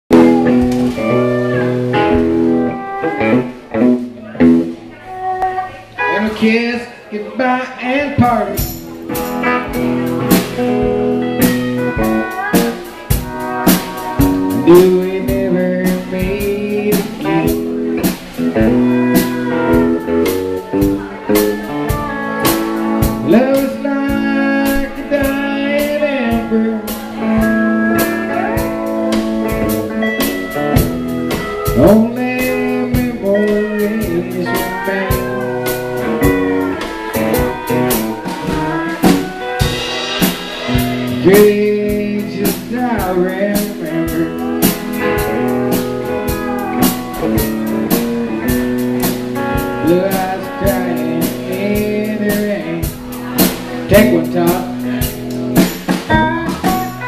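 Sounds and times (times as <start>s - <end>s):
drum kit: 0.1s - 5.8s, 8.2s - 57.0s
electric guitar: 0.1s - 57.0s
live blues band: 0.1s - 57.0s.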